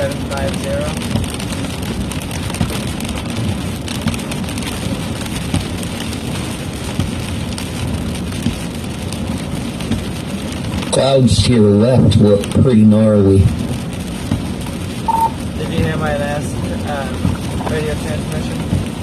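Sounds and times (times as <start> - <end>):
heavy rain pelting a car: 0.0 - 19.0
road and engine rumble: 0.0 - 19.0.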